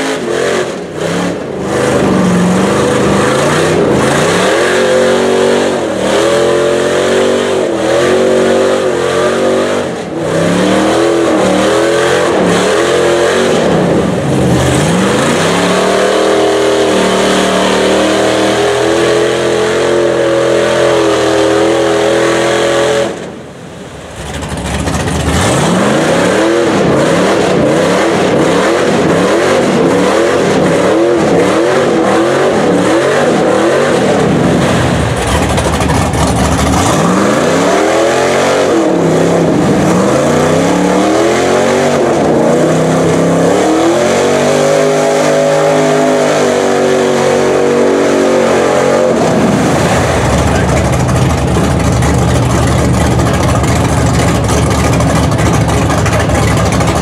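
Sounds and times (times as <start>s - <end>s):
pickup engine revving: 0.0s - 57.0s
tires spinning in mud: 0.0s - 57.0s.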